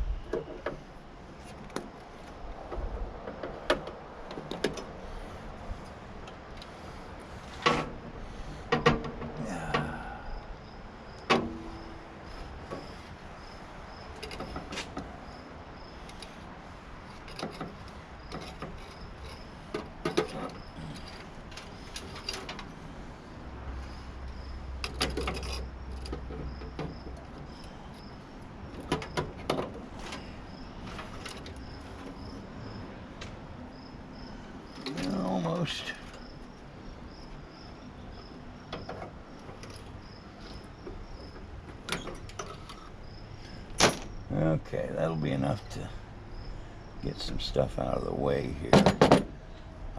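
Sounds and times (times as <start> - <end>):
hand tools clicking and clunking: 0.2 - 10.5, 11.2 - 23.0, 23.7 - 32.6, 34.7 - 36.7, 38.2 - 44.2, 48.4 - 49.7.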